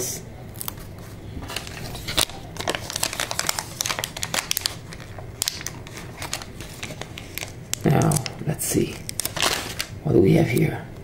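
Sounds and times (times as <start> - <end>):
sticker sheet crinkling: 0.6 - 10.0.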